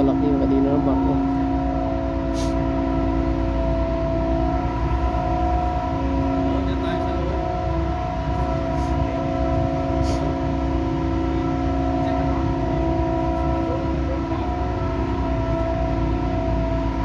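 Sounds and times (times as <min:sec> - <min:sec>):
ship machinery drone: 0:00.0 - 0:17.0.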